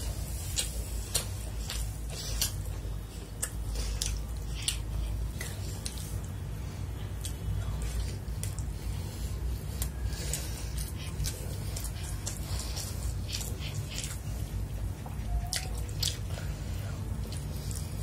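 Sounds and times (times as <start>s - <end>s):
low steady hum: 0.0s - 18.0s
wet chewing: 0.0s - 18.0s.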